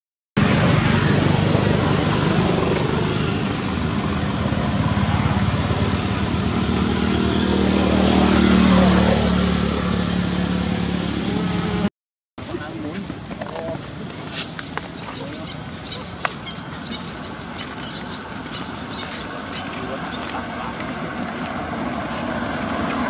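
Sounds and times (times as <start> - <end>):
vehicle engine humming: 0.4 - 23.0.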